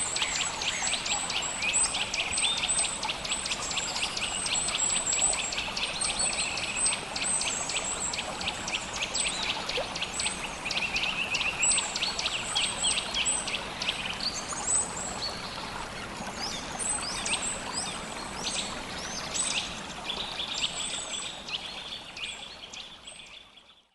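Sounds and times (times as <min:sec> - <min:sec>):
stream flowing: 0:00.0 - 0:23.5.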